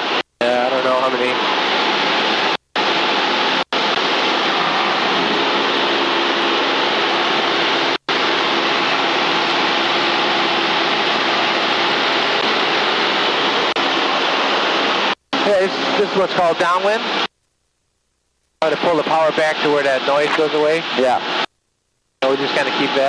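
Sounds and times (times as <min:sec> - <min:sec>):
faint aircraft engine drone: 0:00.0 - 0:17.3, 0:18.6 - 0:21.5, 0:22.2 - 0:23.0
headset static hiss: 0:00.0 - 0:23.0.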